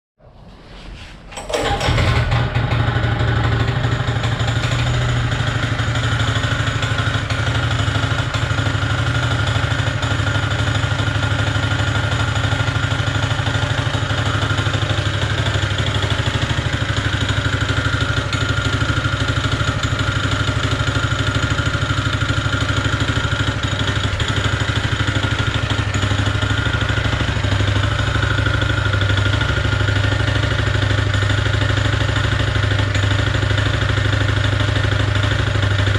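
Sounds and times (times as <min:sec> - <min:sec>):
power trowel engine running: 0:01.3 - 0:35.9
rapid engine knock: 0:01.5 - 0:35.9.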